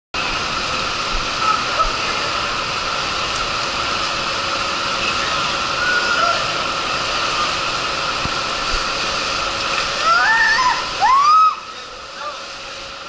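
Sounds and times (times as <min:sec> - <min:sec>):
water rushing down a slide: 0:00.2 - 0:13.0.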